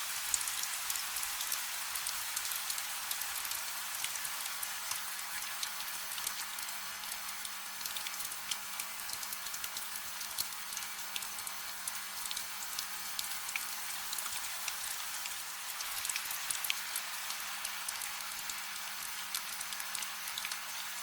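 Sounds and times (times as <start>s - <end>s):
gentle rain: 0.0s - 21.0s.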